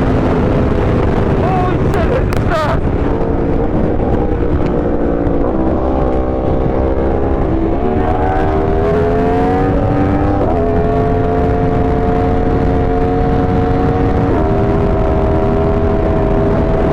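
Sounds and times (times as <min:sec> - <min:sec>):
heavy wind noise: 0:00.0 - 0:16.9
motorcycle engine running: 0:00.0 - 0:16.9.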